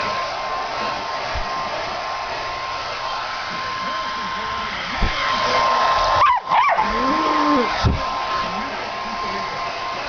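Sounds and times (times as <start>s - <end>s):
hair dryer running: 0.0s - 10.0s.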